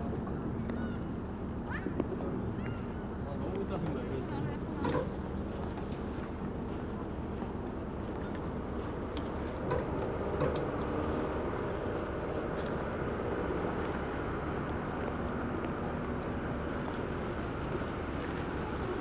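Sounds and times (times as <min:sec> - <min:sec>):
distant engines rumbling: 0:00.0 - 0:19.0.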